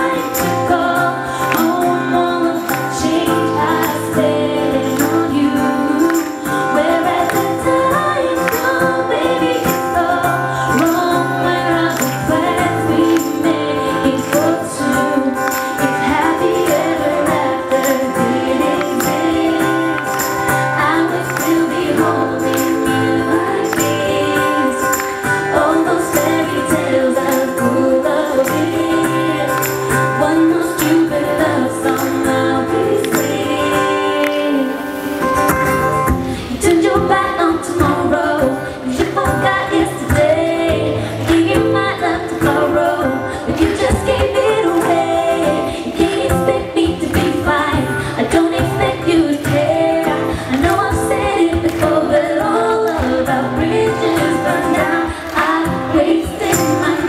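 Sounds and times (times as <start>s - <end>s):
women singing pop song: 0.0s - 57.0s.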